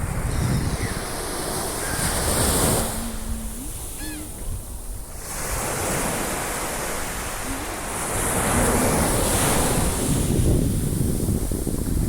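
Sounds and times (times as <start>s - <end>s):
sea surf breaking: 0.0s - 11.6s
wind buffeting microphone: 0.0s - 12.0s.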